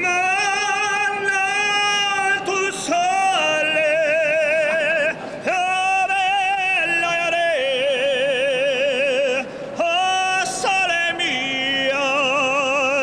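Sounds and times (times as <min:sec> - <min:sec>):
man singing operatically: 0:00.0 - 0:13.0.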